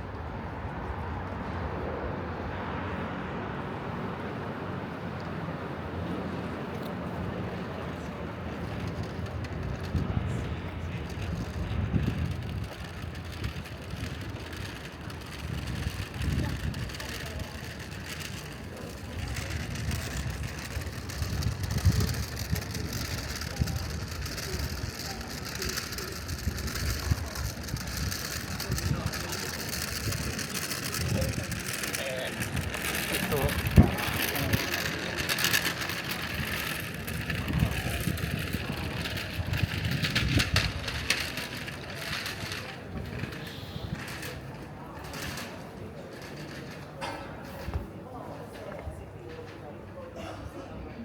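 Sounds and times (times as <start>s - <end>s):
steady street hiss: 0.0s - 51.0s
passing vehicle rumble: 0.2s - 45.5s.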